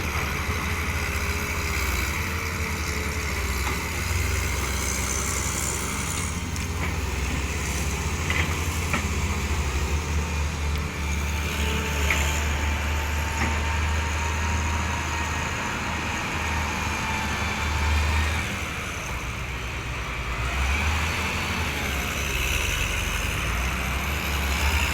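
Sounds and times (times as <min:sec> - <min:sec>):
diesel engine low rumble: 0:00.0 - 0:24.9.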